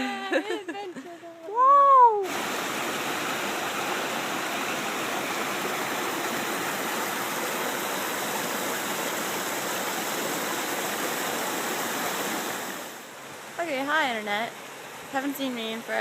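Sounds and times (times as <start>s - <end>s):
waterfall and stream rushing: 1.8s - 16.0s.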